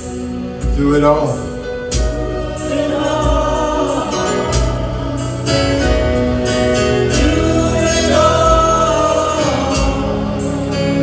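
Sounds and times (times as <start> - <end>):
band accompaniment: 0.0 - 11.0
voices singing gospel: 0.0 - 11.0.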